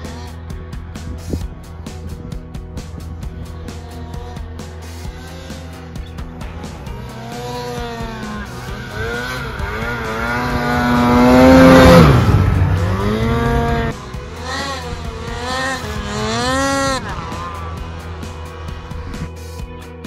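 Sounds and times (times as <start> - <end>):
snowmobile engine revving: 0.0 - 19.6.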